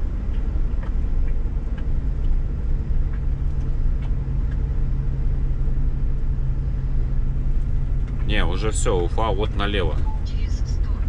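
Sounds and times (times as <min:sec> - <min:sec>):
truck engine and tyres rumbling: 0:00.0 - 0:11.0.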